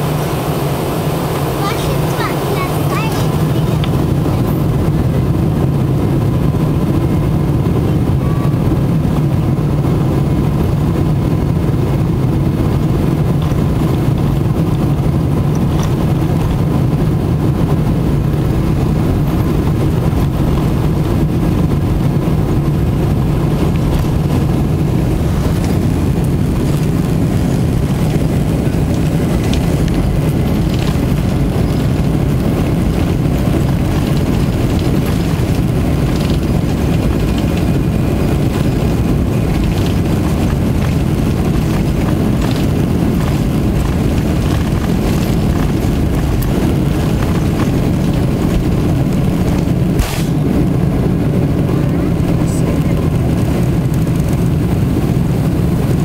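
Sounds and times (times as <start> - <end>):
aircraft engine hum in cabin: 0.0 - 56.0.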